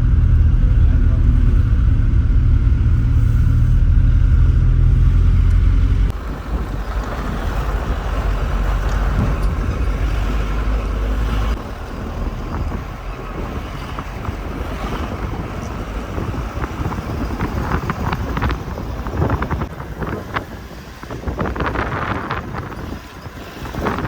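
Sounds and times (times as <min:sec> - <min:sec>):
heavy low rumble: 0:00.0 - 0:23.0
car engine and road noise: 0:00.0 - 0:24.0.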